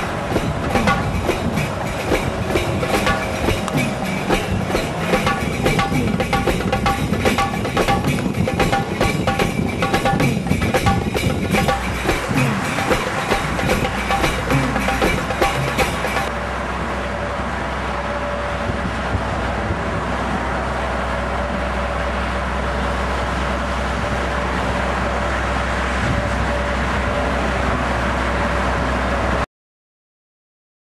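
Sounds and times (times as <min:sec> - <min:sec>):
vehicle rumble: 0:00.0 - 0:29.4.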